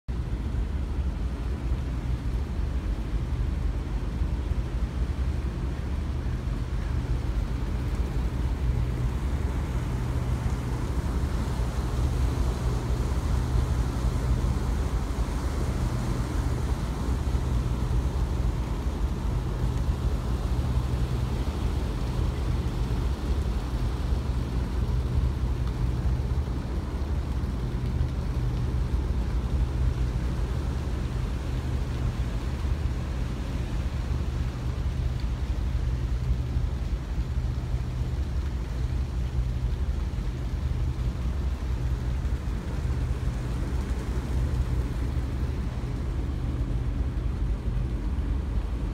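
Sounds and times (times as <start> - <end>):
water rushing along hull: 0.1 - 48.9.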